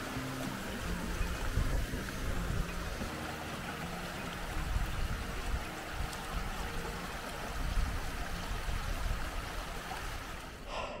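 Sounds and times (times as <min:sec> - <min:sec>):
stream trickling over stones: 0:00.0 - 0:10.7.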